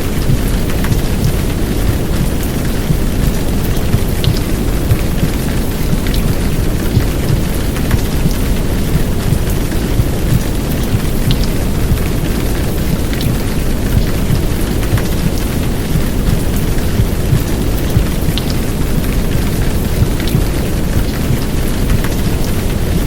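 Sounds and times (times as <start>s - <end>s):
muffled womb sound rumble: 0.0s - 22.7s
heavy rain: 0.0s - 23.0s
sharp drip ticks: 0.0s - 23.0s.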